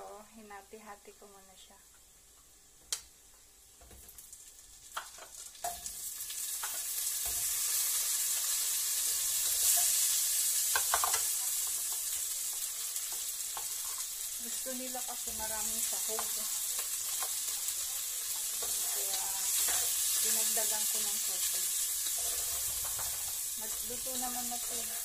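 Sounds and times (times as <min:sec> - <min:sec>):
food sizzling in hot oil: 0:00.2 - 0:25.0.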